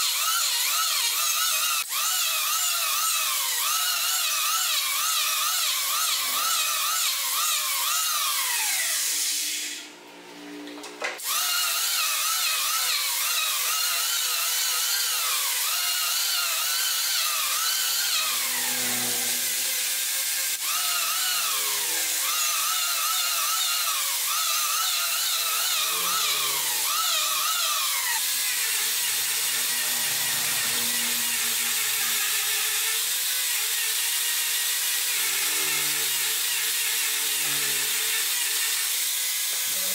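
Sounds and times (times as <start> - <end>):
angle grinder sanding wood: 0.0 - 9.9, 11.2 - 39.9
electric planer whining on wood: 0.0 - 39.9.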